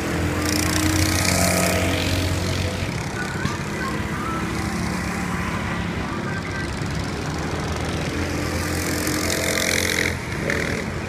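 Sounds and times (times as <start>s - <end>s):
go-kart engine buzzing: 0.0s - 11.0s.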